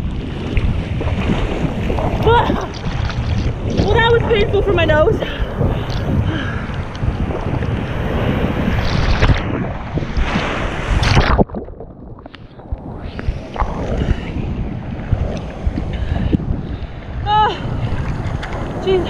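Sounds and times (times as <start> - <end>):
ocean waves rushing: 0.0 - 19.0
wind buffeting microphone: 0.0 - 19.0.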